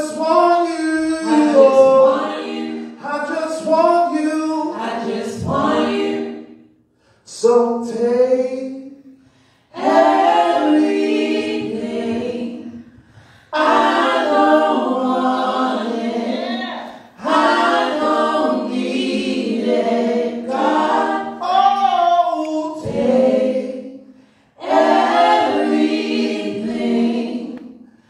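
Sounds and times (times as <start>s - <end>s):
group singing a cappella in harmony: 0.0s - 8.0s, 9.1s - 28.0s.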